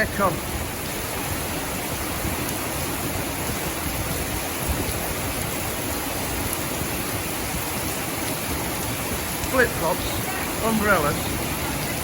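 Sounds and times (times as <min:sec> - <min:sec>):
heavy rain on hard surfaces: 0:00.0 - 0:12.0
running water: 0:00.0 - 0:12.0.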